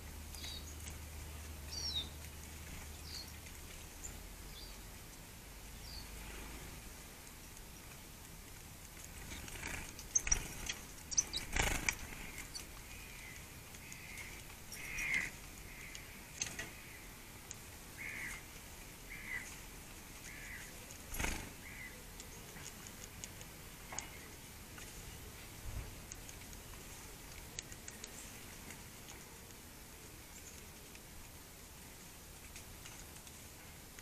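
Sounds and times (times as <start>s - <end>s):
soft bird calls: 0.0s - 8.2s, 8.9s - 31.2s.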